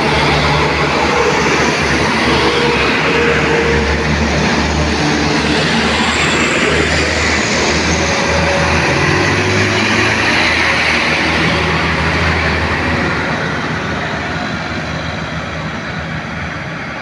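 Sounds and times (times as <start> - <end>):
truck engine drone: 0.0 - 17.0
tyre and road roar: 0.0 - 17.0.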